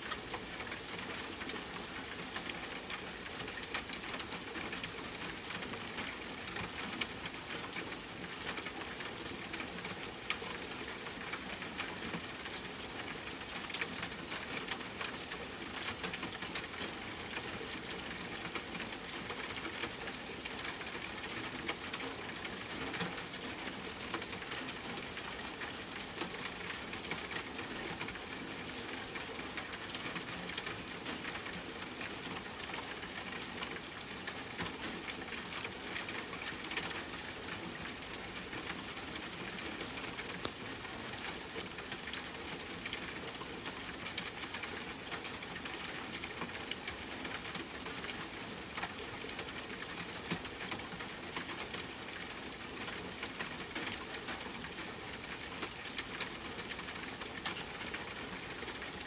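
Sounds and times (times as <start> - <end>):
rain drops on hard surface: 0.0 - 59.0.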